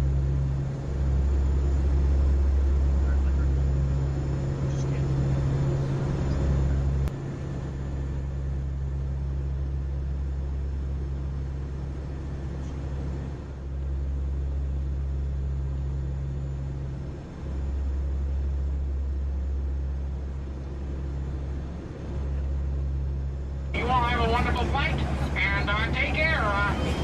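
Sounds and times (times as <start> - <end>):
turboprop engines droning: 0.0 - 27.0.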